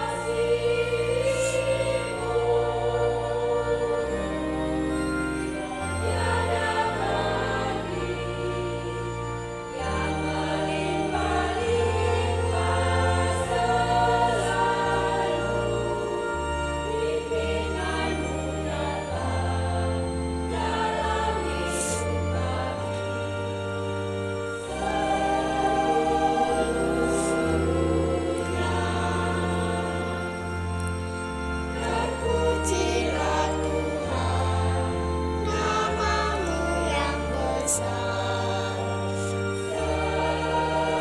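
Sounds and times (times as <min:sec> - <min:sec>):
choir singing a hymn: 0:00.0 - 0:41.0
electronic organ bass notes: 0:00.0 - 0:41.0.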